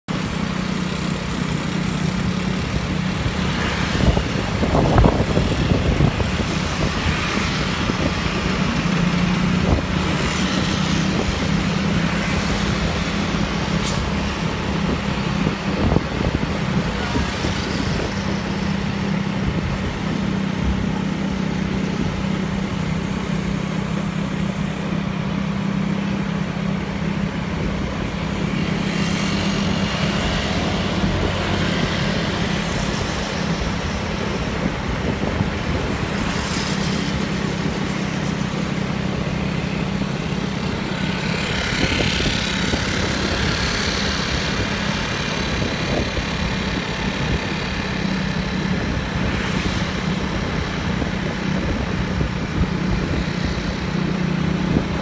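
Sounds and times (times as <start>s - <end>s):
road and wind noise: 0.1s - 55.0s
steady engine hum: 0.1s - 55.0s.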